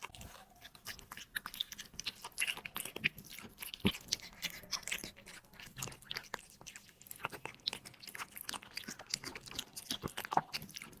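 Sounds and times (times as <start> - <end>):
cat crunching food: 0.0 - 11.0.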